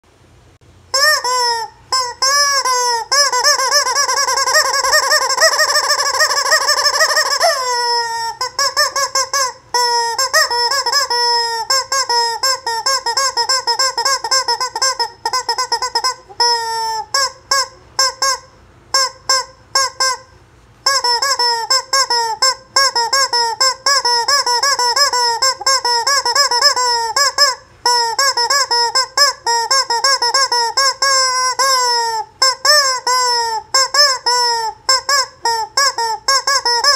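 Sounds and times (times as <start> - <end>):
rubber chicken toy squawking: 0.9 - 36.9.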